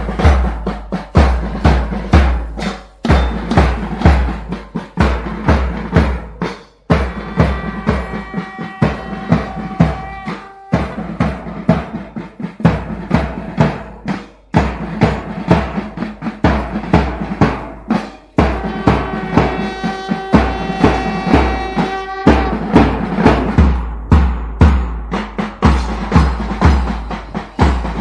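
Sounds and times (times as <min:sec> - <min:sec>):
bass drums: 0:00.0 - 0:28.0
snare drums: 0:00.0 - 0:28.0.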